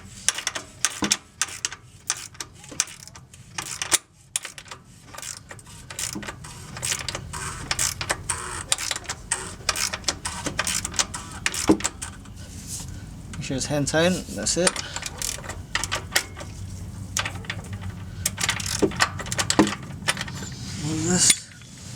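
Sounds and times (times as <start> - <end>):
cap clicking and scraping on threads: 0.2 - 21.7.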